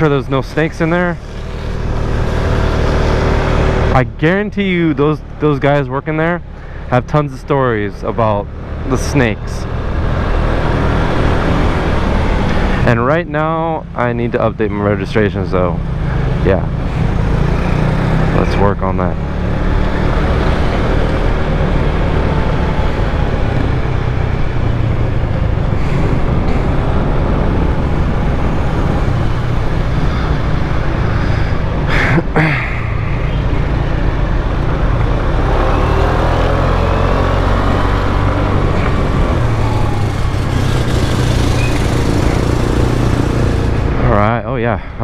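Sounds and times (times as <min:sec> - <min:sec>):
motorcycle engine: 0:00.0 - 0:44.5
passing traffic: 0:00.0 - 0:45.0.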